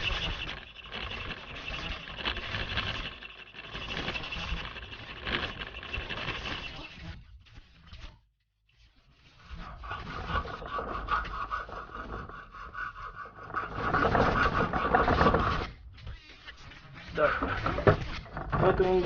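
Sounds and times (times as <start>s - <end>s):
hand saw rasping strokes: 0.0s - 7.8s, 9.3s - 19.0s.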